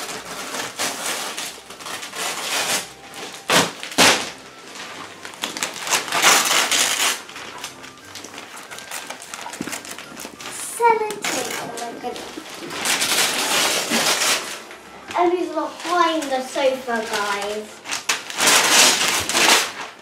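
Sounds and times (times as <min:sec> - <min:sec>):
wrapping paper ripping and rustling: 0:00.0 - 0:20.0.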